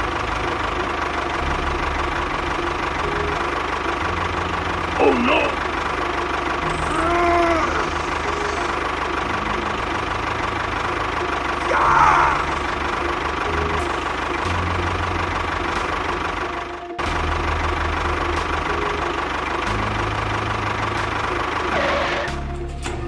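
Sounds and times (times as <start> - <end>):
tractor engine chugging: 0.0 - 23.0.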